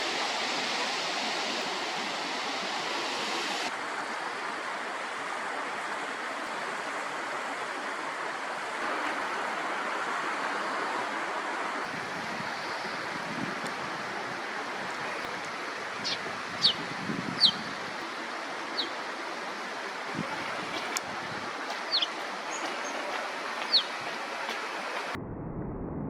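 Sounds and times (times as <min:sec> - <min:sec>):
stream water rushing: 0:00.0 - 0:25.2.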